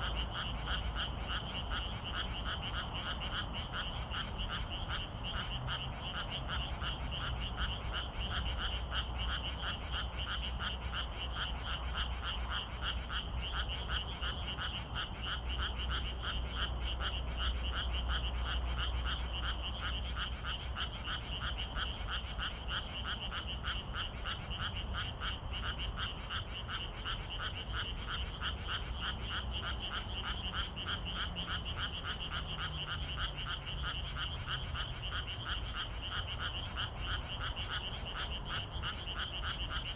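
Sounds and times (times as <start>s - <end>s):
frogs calling: 0.0s - 39.9s.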